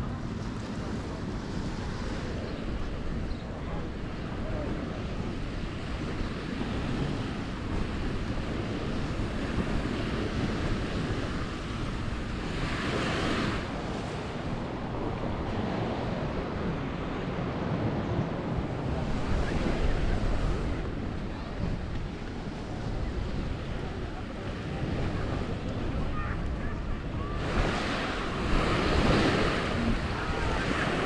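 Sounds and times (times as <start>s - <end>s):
surf washing onto beach: 0.0s - 31.0s
wind rumbling on microphone: 0.0s - 31.0s.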